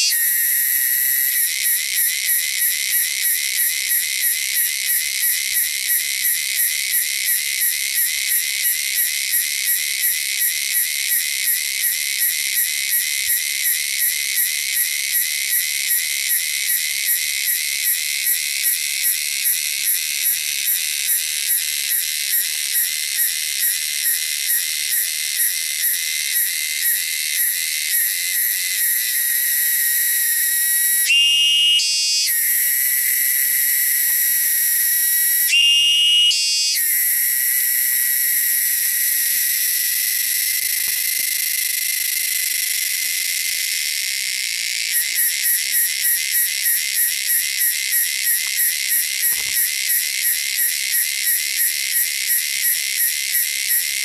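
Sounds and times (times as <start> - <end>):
cicada singing: 0.0 - 54.0.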